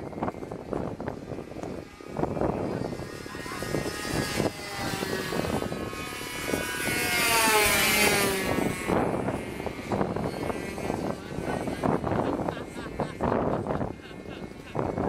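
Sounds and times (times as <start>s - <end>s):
model airplane motor buzzing: 0.0s - 15.0s.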